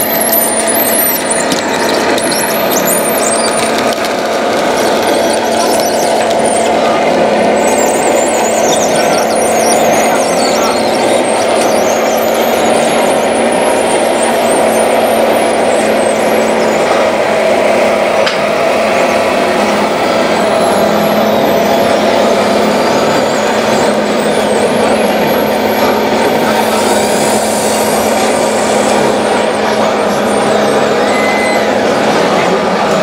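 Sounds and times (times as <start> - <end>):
toy bulldozer running: 0.0 - 33.0.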